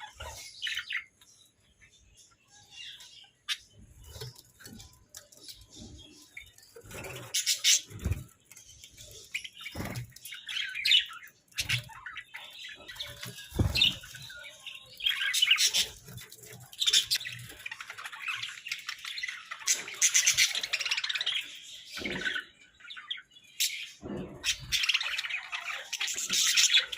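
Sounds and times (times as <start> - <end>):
budgerigars chattering and chirping: 0.0 - 26.9.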